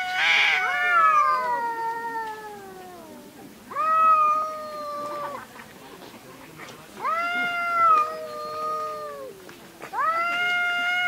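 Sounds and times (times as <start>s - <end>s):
cats yowling: 0.0s - 5.5s, 7.0s - 11.0s.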